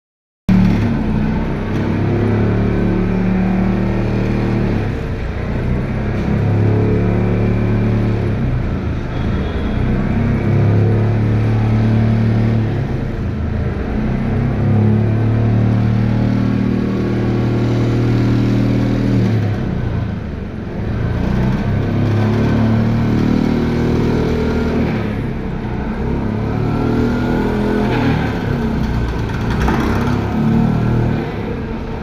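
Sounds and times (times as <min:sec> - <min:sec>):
engine running loudly: 0:00.5 - 0:32.0.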